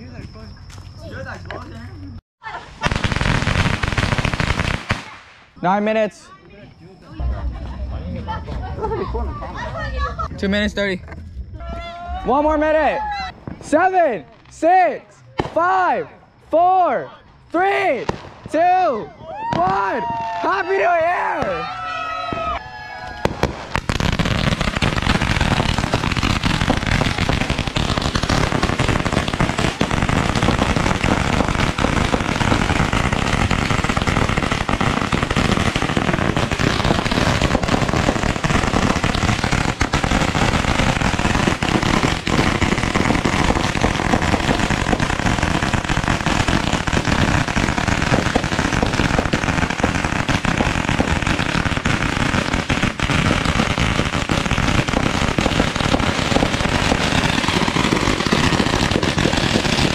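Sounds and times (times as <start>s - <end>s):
fireworks crackling and banging: 0.0s - 6.3s, 7.1s - 59.9s.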